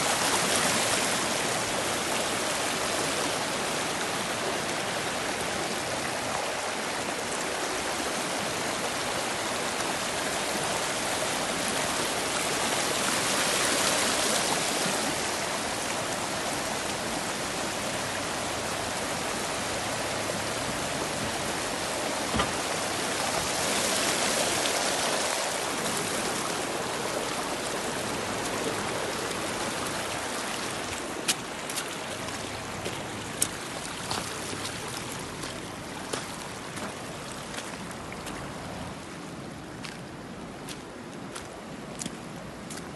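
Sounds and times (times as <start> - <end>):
floodwater rushing over rocks: 0.0 - 42.9.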